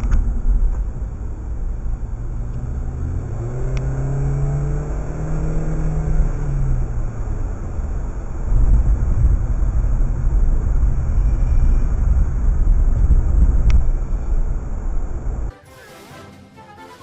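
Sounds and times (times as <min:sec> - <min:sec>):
car engine and road rumble: 0:00.0 - 0:15.5.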